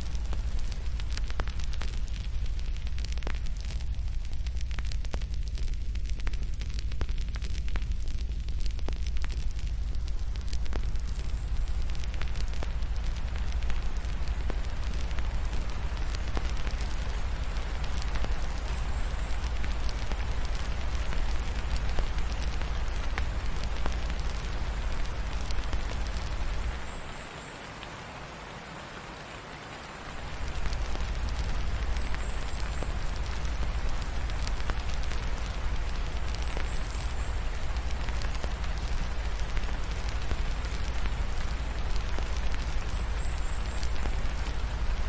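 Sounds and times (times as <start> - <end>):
fireplace crackles: 0.0 - 45.0
rain pattering: 0.0 - 45.0.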